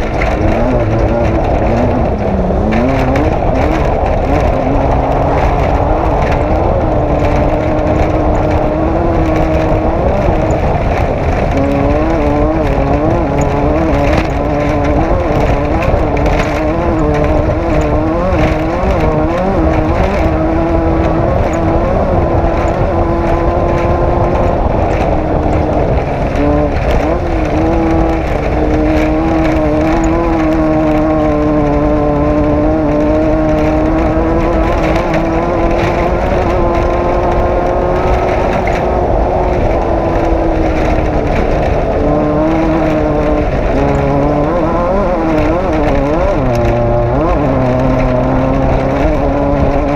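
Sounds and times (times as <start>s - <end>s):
knocks and rattles: 0.0s - 49.9s
loud rushing noise: 0.0s - 49.9s
race vehicle engine revving hard: 0.0s - 49.9s.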